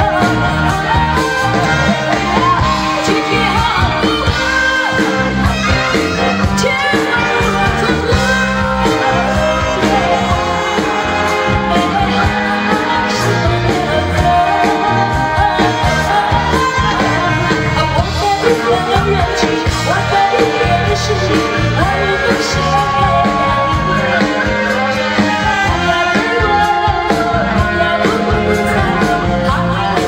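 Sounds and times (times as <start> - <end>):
live band with drums: 0.0 - 30.0
woman singing pop song: 0.0 - 30.0.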